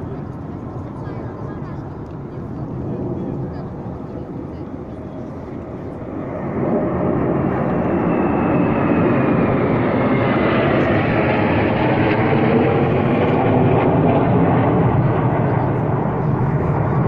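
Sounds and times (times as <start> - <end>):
jet aircraft roar: 0.0 - 17.0.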